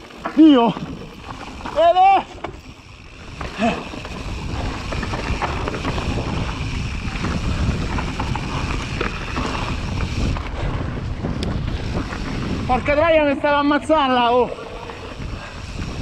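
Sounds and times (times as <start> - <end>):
bike clattering and rattling: 0.0 - 16.0
bike tyres rolling over dirt trail: 0.0 - 16.0
wind buffeting microphone: 0.6 - 16.0.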